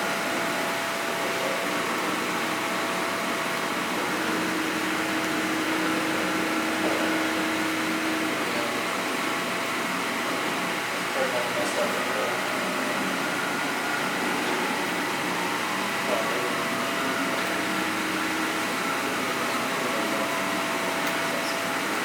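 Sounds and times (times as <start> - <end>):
faint motor tones: 0.0 - 22.0
printer mechanical whir: 0.0 - 22.0.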